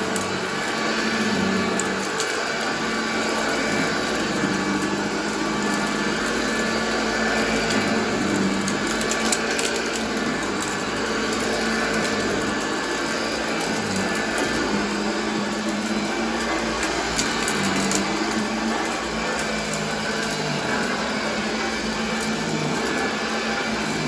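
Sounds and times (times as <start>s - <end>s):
upright vacuum cleaner running: 0.0s - 24.0s.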